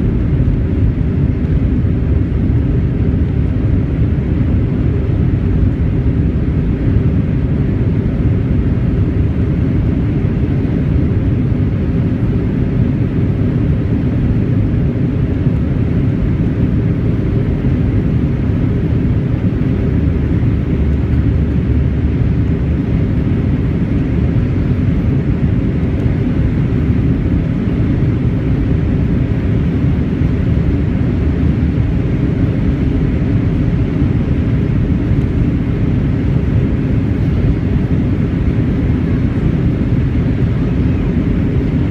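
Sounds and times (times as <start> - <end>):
jet airliner engines rumbling: 0.0 - 41.9.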